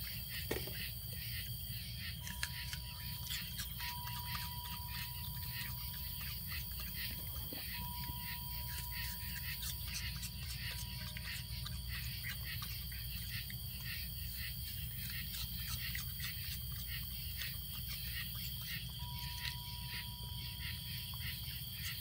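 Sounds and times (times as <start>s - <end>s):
night insects trilling: 0.0s - 22.0s
raccoon chewing and smacking: 0.0s - 22.0s.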